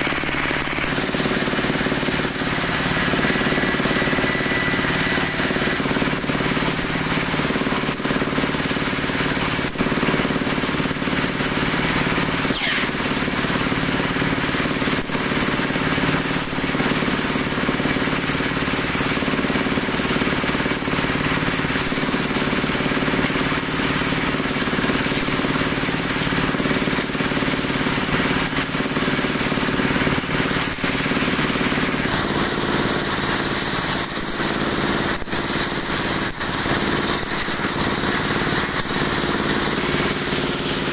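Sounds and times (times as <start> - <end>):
dowel machine motor hum: 0.0 - 40.9.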